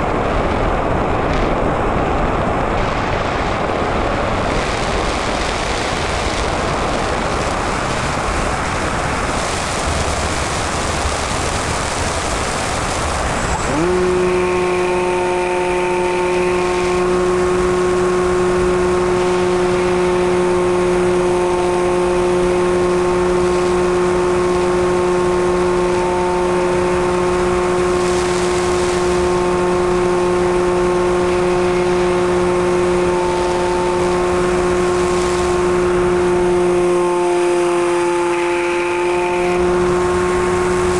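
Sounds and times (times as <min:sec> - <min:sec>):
wind rushing past camera: 0:00.0 - 0:36.9
electric motor and propeller whine: 0:00.0 - 0:40.9.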